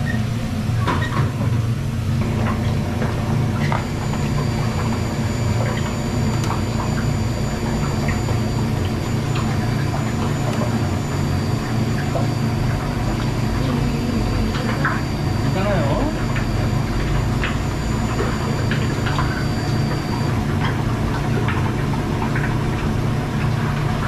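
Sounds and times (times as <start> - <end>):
machine low hum: 0.0 - 24.0
thin high whine: 2.3 - 21.9.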